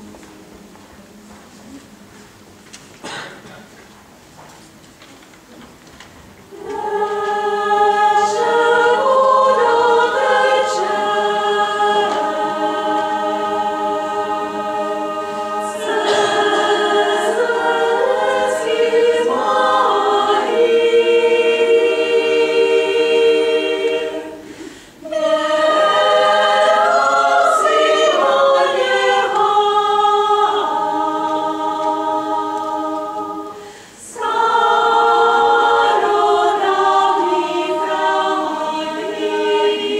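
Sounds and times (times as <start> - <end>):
women's choir singing a cappella: 6.5 - 39.9.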